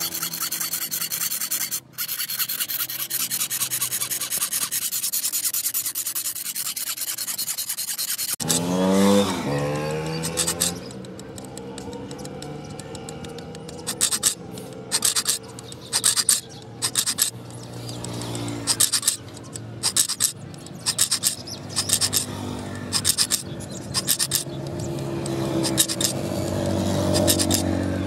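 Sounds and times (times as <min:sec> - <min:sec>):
metal tool rasping on blade: 0:00.0 - 0:08.8, 0:10.0 - 0:10.9, 0:13.7 - 0:27.9.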